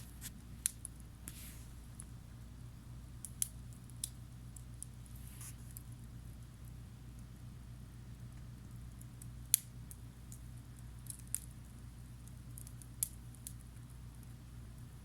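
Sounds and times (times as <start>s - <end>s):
campfire popping and snapping: 0.0s - 7.5s, 8.1s - 15.0s
low steady hum: 0.0s - 15.0s.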